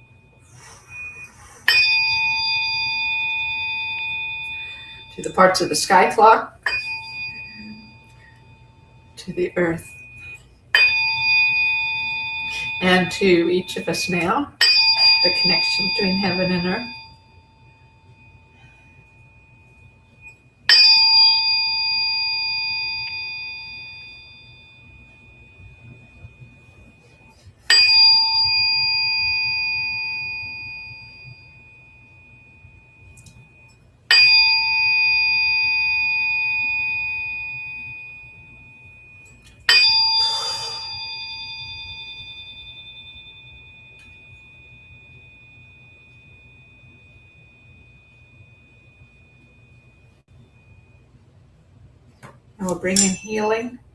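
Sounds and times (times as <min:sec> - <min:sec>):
metal bell ringing: 0:00.0 - 0:51.0, 0:52.6 - 0:53.9.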